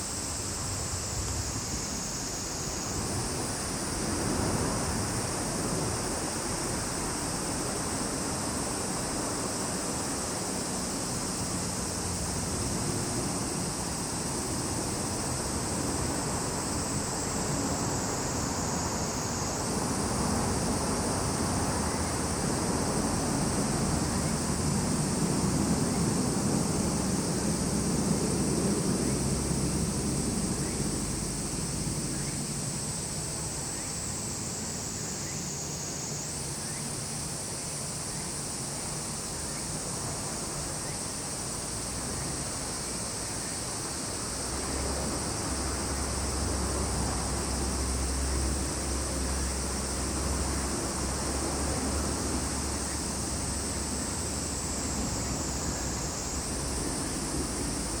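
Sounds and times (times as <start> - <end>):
cicadas droning: 0.0 - 58.0.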